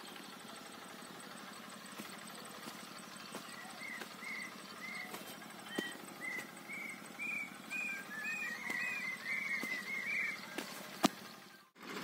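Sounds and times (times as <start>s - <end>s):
birds whistling calls: 1.3s - 11.6s.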